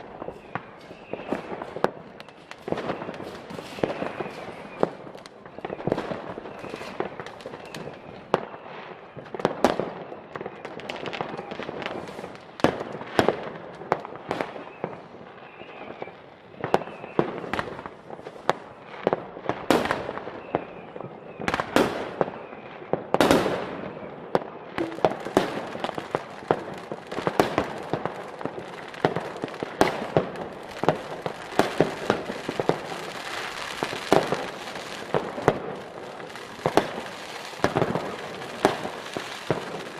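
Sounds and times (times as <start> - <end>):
firework bangs: 0.0 - 15.0, 15.6 - 39.9
continuous crackling: 0.0 - 23.1, 24.4 - 39.9.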